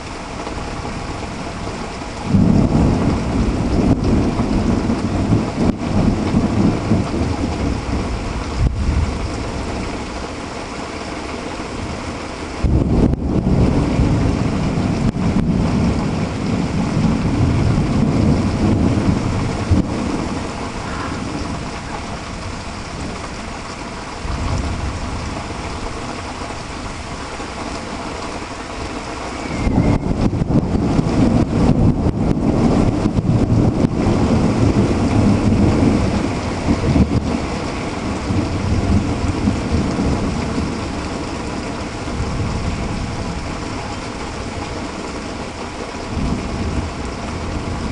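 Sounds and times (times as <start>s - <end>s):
heavy rain: 0.0s - 47.9s
rolling thunder: 0.0s - 47.9s.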